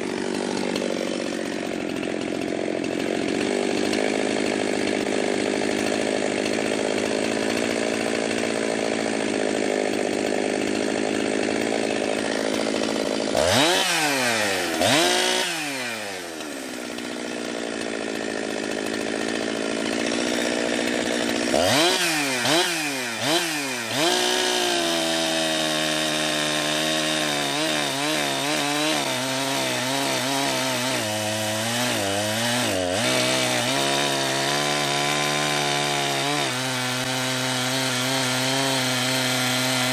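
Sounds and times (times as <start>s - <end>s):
chainsaw revving in wood: 0.0s - 39.9s.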